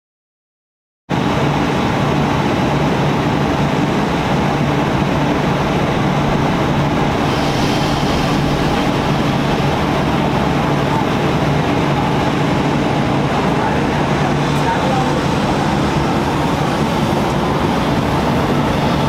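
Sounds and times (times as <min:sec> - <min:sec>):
electric train hum and rumble: 0:01.1 - 0:19.0.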